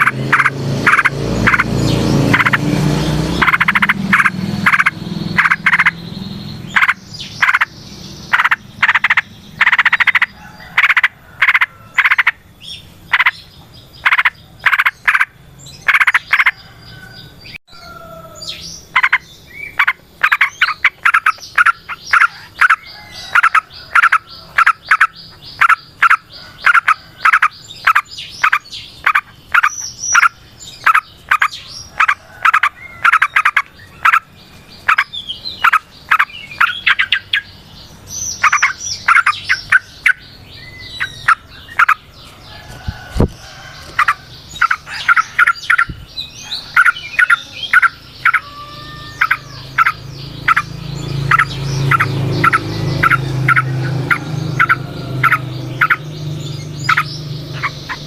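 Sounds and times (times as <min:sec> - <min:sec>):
frogs croaking: 0:00.0 - 0:17.2, 0:17.8 - 0:58.0.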